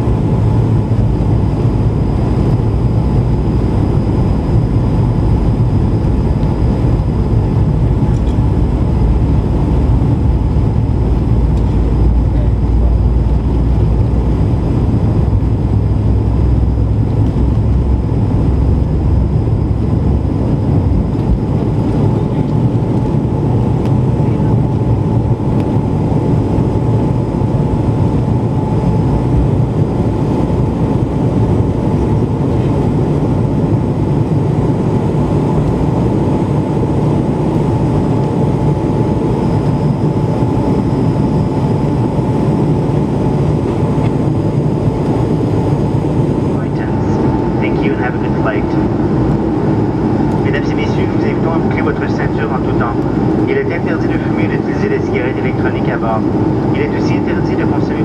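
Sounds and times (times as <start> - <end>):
airplane cabin roar: 0.0 - 58.0
heavy deep rumble: 0.0 - 58.0
thin engine whine: 0.0 - 58.0.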